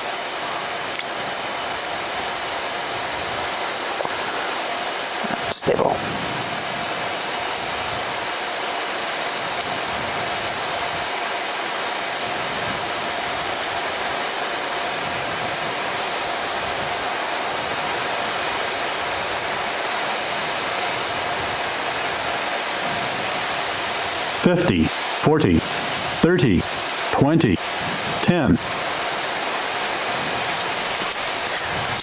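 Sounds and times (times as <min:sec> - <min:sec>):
airflow and engine noise in cockpit: 0:00.0 - 0:32.0
faint steady hum: 0:00.0 - 0:32.0.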